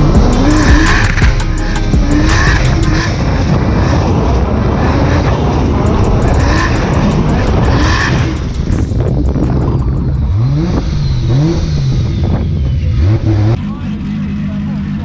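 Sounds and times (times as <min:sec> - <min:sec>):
car engine revving: 0:00.0 - 0:15.0
tyre and road noise: 0:00.0 - 0:15.0.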